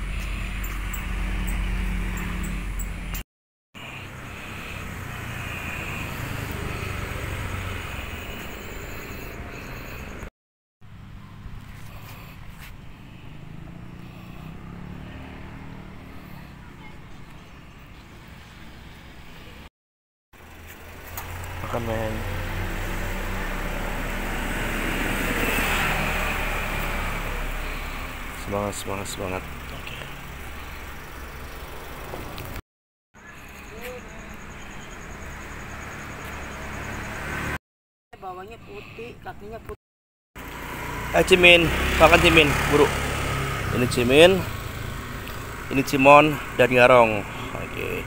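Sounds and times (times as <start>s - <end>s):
street traffic hum: 0.0s - 3.2s, 3.8s - 19.7s, 20.3s - 32.6s, 33.2s - 39.8s, 40.4s - 48.0s
vehicle passing by: 0.0s - 3.2s, 3.8s - 10.3s, 10.9s - 19.7s, 20.4s - 32.6s, 33.2s - 37.6s, 40.4s - 48.0s.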